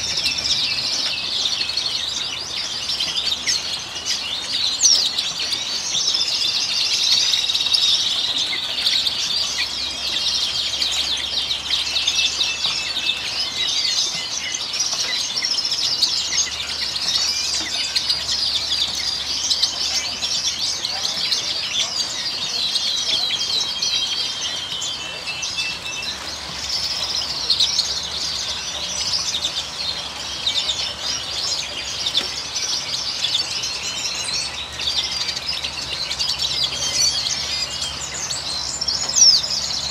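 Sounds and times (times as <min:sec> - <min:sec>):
finches and canaries chirping: 0:00.0 - 0:39.9.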